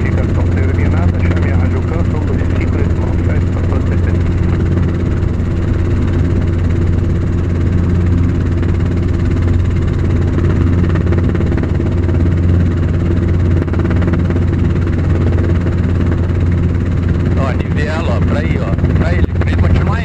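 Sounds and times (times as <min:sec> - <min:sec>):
helicopter engine and rotors drone: 0:00.0 - 0:20.0.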